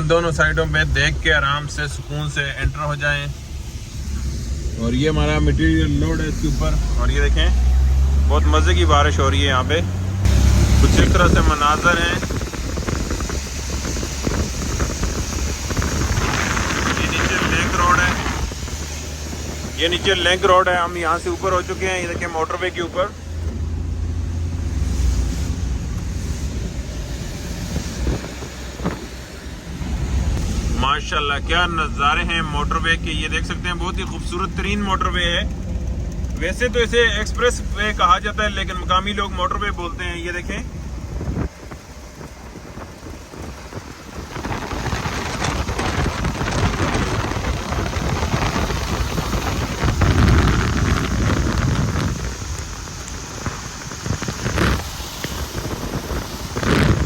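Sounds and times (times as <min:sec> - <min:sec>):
heavy rain pattering: 0:00.0 - 0:57.0
low engine and road rumble: 0:00.0 - 0:57.0
wind noise on microphone: 0:03.5 - 0:22.6, 0:23.2 - 0:36.4, 0:37.1 - 0:57.0.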